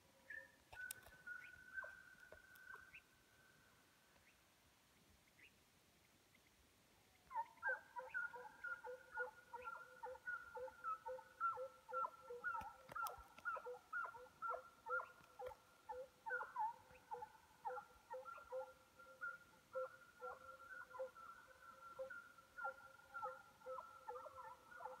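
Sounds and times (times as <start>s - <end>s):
distant hounds baying: 0.3s - 2.9s, 7.3s - 25.0s.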